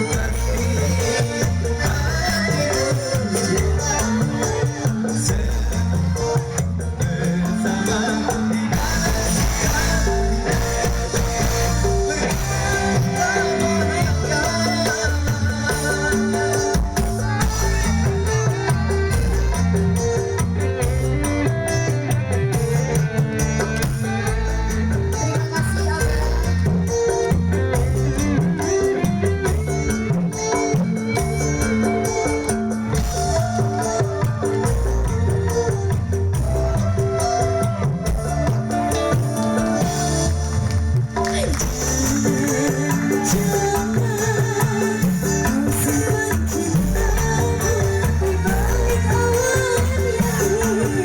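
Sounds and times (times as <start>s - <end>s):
drums: 0.0s - 51.0s
heavy bass line: 0.0s - 51.0s
live band music: 0.0s - 51.0s
vibrato melody line: 0.0s - 51.0s.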